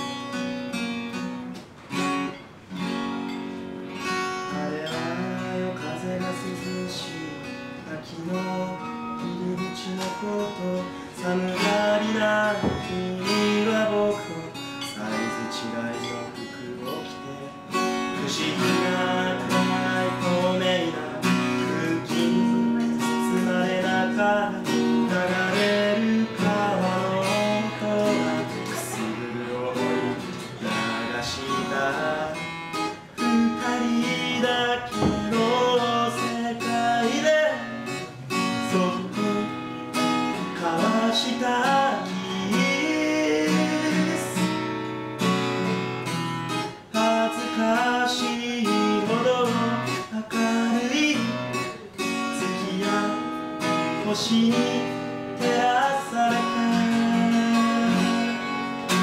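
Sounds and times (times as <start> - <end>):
acoustic guitar strummed and picked: 0.0 - 59.0.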